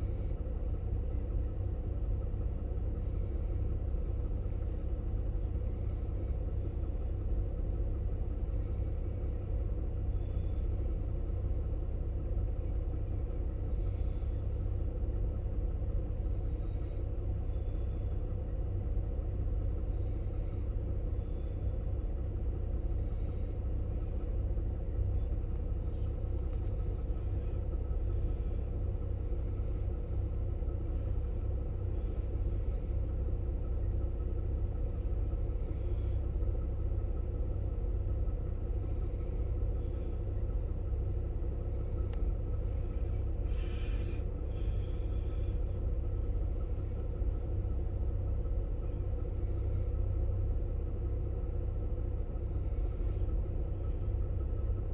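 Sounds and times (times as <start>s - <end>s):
low rumble: 0.0s - 54.9s.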